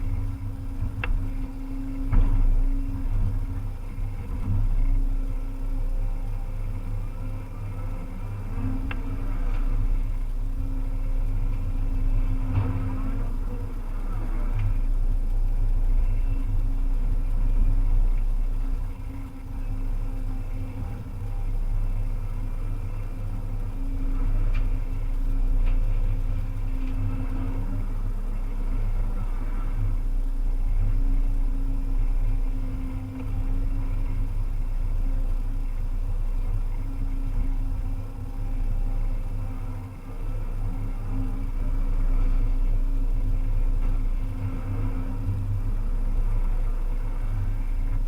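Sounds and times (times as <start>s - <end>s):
excavator engine running: 0.0s - 48.0s.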